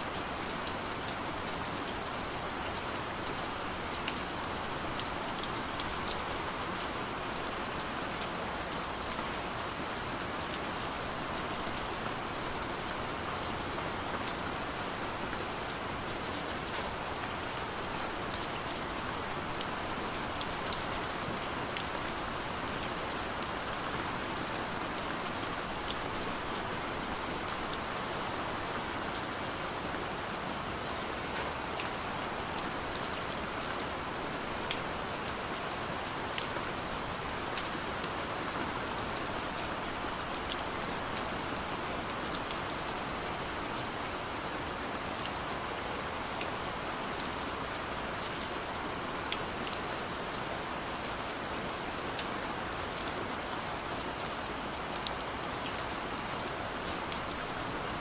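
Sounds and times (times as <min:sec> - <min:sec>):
gentle rain patter: 0:00.0 - 0:58.0.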